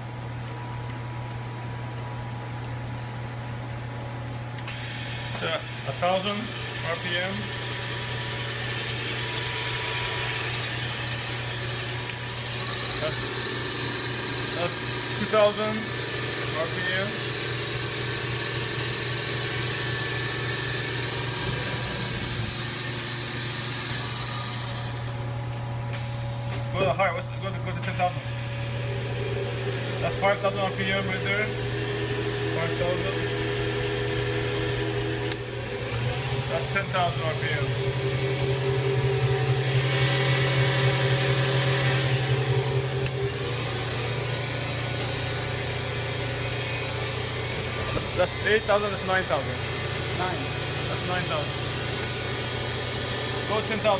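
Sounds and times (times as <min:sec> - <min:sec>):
low machine hum: 0:00.0 - 0:53.9
machining center high whine: 0:00.0 - 0:53.9.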